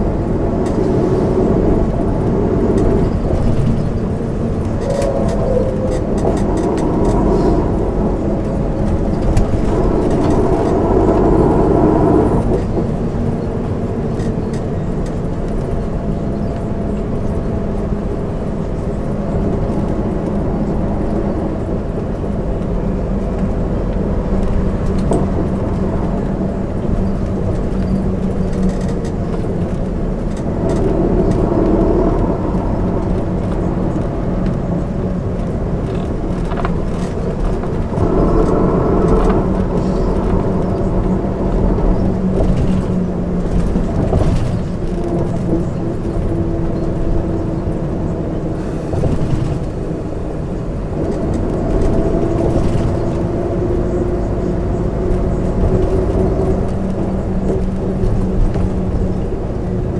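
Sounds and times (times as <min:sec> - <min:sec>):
bus engine and road drone: 0:00.0 - 0:59.9.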